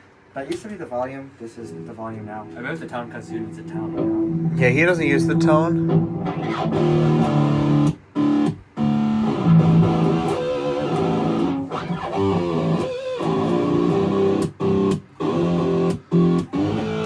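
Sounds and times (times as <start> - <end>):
choppy electric guitar: 1.7 - 17.0.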